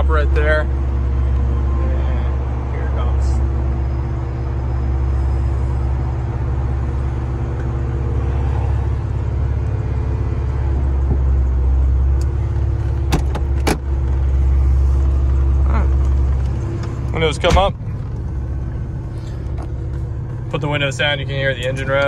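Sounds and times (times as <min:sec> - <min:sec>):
car engine idling: 0:00.0 - 0:22.0
car soft top motor running: 0:00.0 - 0:22.0.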